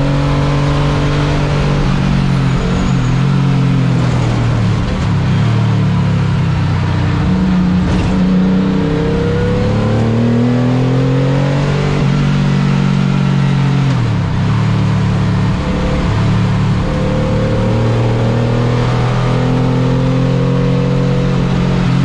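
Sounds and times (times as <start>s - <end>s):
car engine accelerating: 0.0s - 22.0s
road and wind noise: 0.0s - 22.0s.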